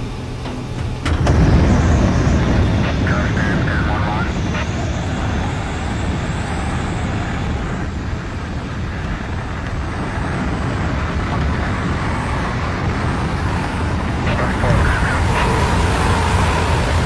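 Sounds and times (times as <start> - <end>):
airplane engine drone: 0.0 - 17.0.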